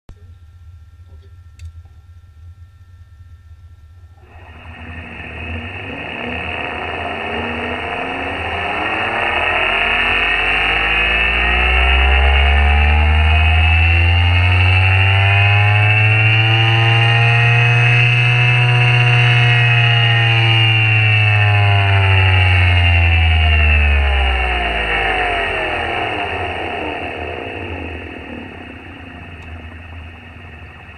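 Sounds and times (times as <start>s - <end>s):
motor and drum spinning up: 4.2s - 30.9s.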